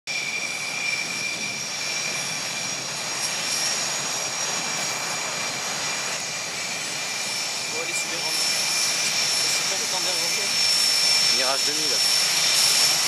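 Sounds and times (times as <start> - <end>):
turboprop engines with high whine: 0.1 - 13.0.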